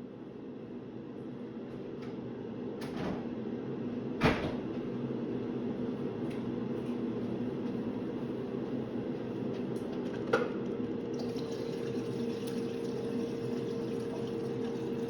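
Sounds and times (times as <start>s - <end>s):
air fryer humming: 0.0s - 15.0s.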